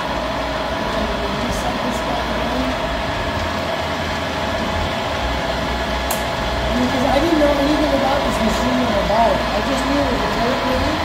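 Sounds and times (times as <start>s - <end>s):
lathe running with whine: 0.0s - 11.0s.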